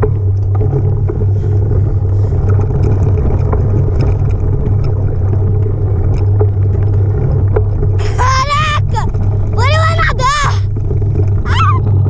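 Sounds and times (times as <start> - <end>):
bicycle ride vibration: 0.0 - 12.0
wind buffeting microphone: 0.0 - 12.0.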